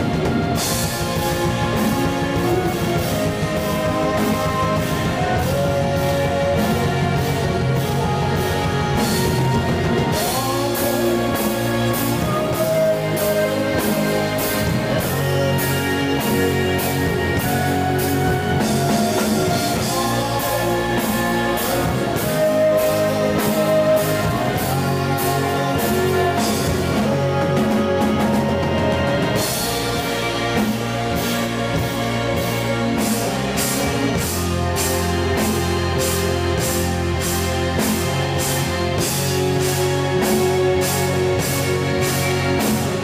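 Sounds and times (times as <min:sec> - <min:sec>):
heavy metal band playing: 0:00.0 - 0:43.0.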